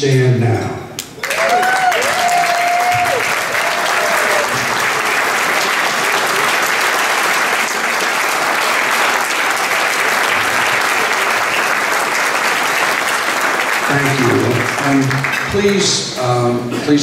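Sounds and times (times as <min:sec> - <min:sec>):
audience applauding: 0:01.0 - 0:16.2.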